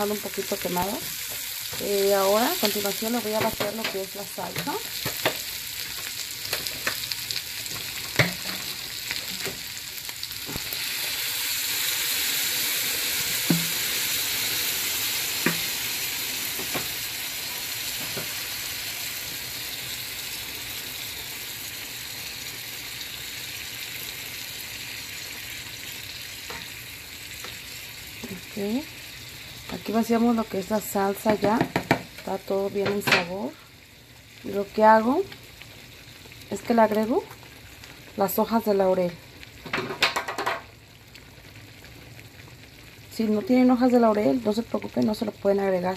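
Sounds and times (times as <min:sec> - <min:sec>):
onions sizzling in frying pan: 0:00.0 - 0:45.9.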